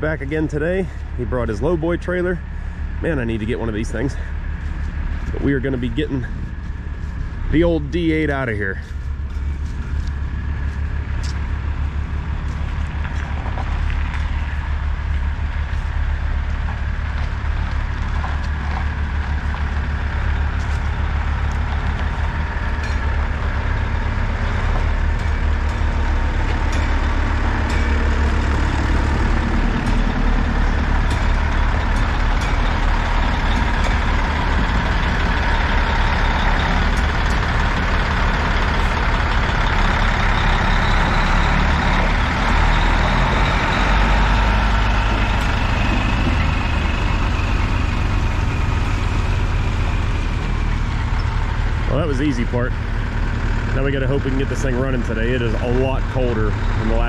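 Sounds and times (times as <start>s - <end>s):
diesel truck engine hum: 0.0s - 57.0s.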